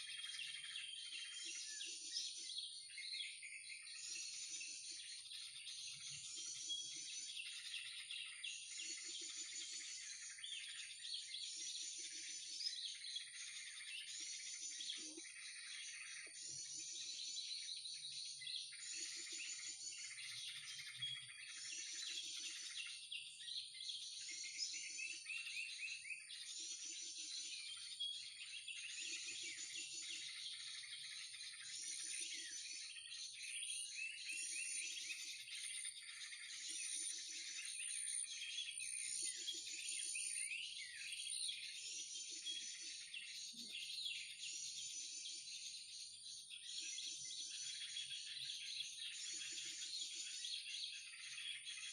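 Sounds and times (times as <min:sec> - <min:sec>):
small birds twittering: 0:00.0 - 0:51.9.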